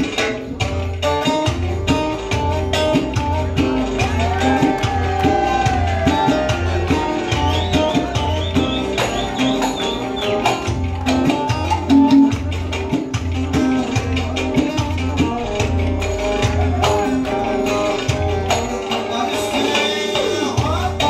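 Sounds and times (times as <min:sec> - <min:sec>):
repeating bass beat: 0:00.0 - 0:19.1
plucked string instrument melody: 0:00.0 - 0:21.0.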